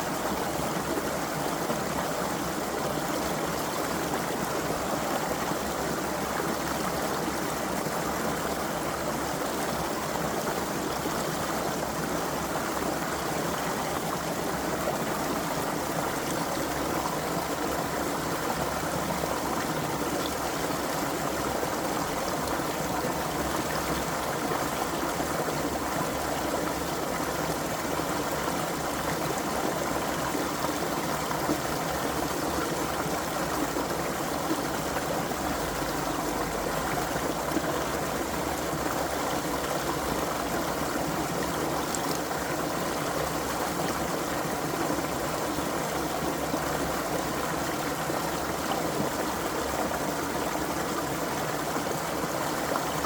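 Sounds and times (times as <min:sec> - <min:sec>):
creek water over stones: 0:00.0 - 0:53.0.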